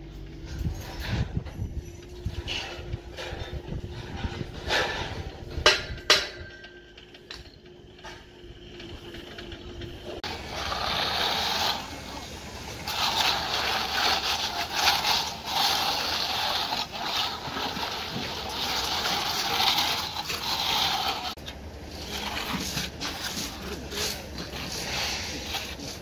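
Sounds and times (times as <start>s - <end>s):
straightedge scraping wet concrete: 0.8s - 6.5s, 10.0s - 26.0s.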